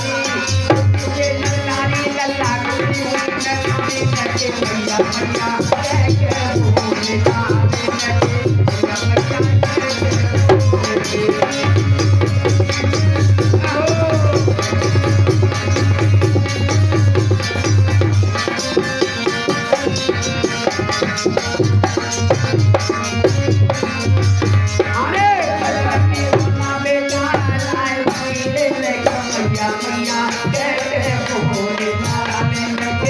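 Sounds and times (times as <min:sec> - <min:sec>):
hand drums beating: 0:00.0 - 0:33.0.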